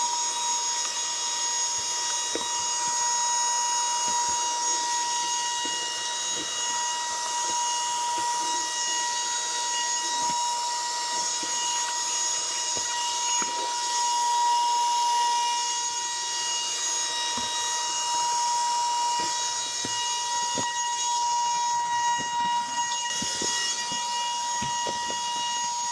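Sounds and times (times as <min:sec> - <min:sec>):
handheld vacuum running: 0:00.0 - 0:25.9.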